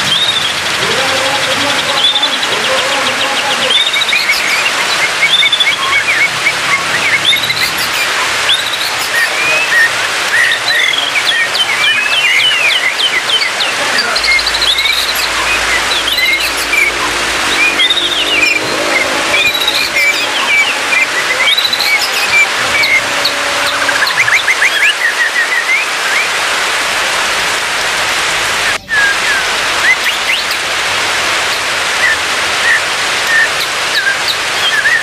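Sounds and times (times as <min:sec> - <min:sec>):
bird singing chirps and trills: 0:00.0 - 0:26.4, 0:28.7 - 0:30.7, 0:31.5 - 0:35.0.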